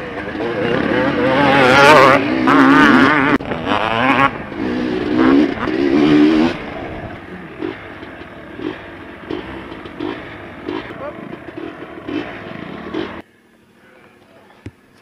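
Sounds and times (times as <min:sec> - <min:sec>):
dirt bike engine revving: 0:00.0 - 0:13.3.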